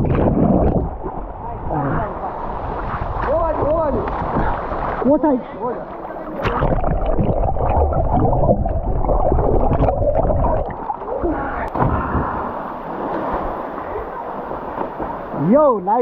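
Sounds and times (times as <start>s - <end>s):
underwater bubbling and churning: 0.0s - 15.4s
water splashing and lapping: 0.0s - 15.6s.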